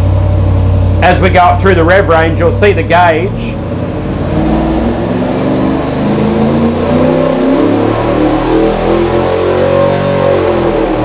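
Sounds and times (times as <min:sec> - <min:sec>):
engine accelerating with rising pitch: 0:00.9 - 0:11.0.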